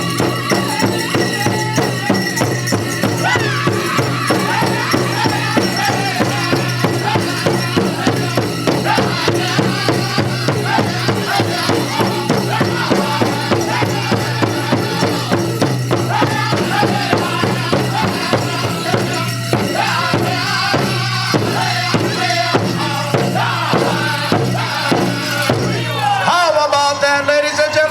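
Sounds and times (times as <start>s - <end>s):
fast steady drumbeat: 0.0s - 26.5s
drum group singing: 0.0s - 27.2s
dancers' bells shaking: 0.0s - 27.7s.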